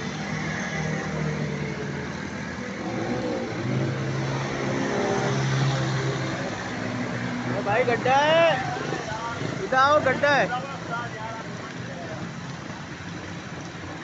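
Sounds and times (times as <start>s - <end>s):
road noise: 0.0s - 14.0s
vehicle accelerating: 0.0s - 14.0s.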